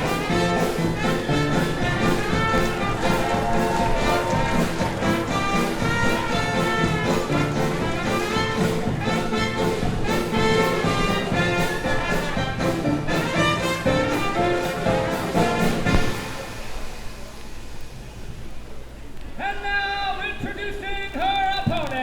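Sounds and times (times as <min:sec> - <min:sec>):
brass jazz music: 0:00.0 - 0:17.7.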